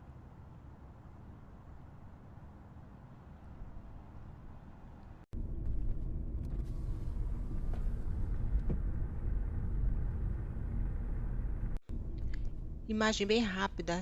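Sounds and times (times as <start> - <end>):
car engine and road noise: 0.0 - 13.0
faint constant hum: 0.0 - 14.0.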